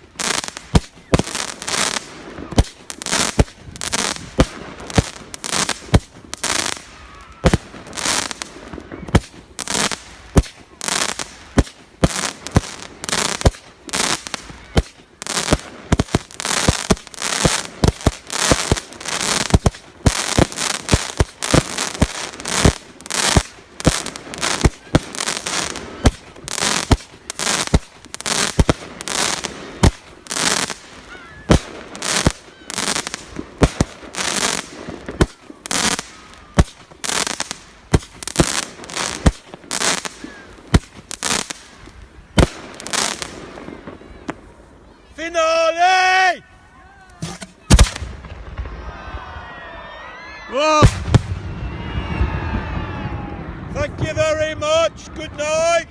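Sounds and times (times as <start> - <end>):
fireworks bangs: 0.0 - 44.6, 47.2 - 49.5, 50.6 - 55.9
fireworks crackling: 0.0 - 49.4, 50.5 - 55.9.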